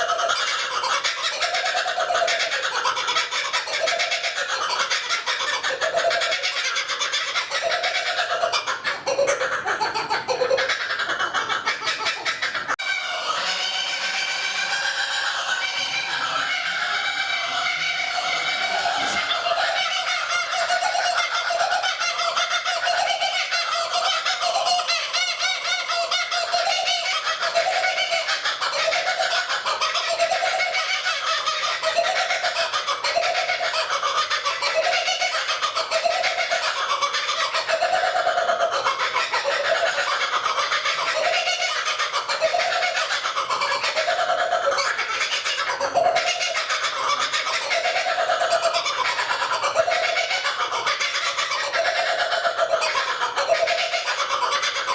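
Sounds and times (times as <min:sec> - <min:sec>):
kookaburras calling: 0:00.0 - 0:54.9.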